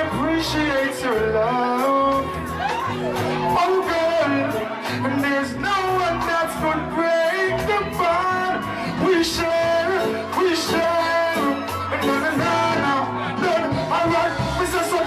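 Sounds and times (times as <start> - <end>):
person singing long vocal lines: 0.0 - 15.0
steady bass: 0.0 - 15.0.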